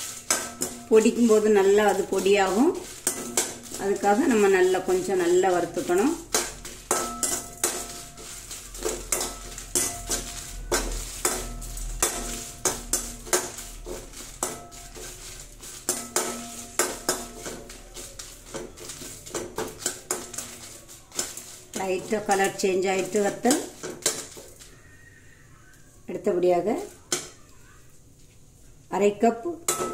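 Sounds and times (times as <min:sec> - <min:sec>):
spoon knocking and scraping metal pan: 0:00.0 - 0:24.8, 0:26.8 - 0:27.5, 0:29.6 - 0:29.9
chillies sizzling in oil: 0:00.0 - 0:29.9.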